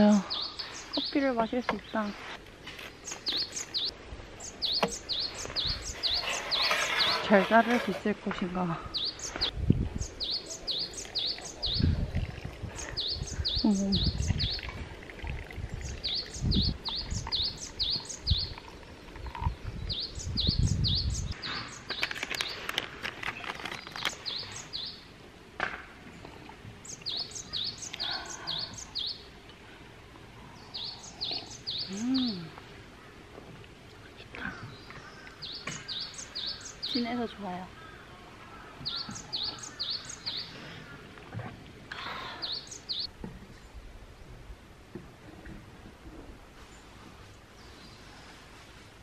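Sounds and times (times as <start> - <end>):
songbird singing: 0.0 - 25.3, 26.0 - 44.3
rustle: 0.0 - 49.0.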